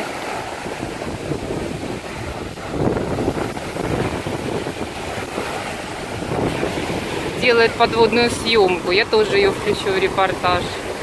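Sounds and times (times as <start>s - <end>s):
waves washing over pebbles: 0.0s - 11.0s
wind buffeting microphone: 0.0s - 11.0s.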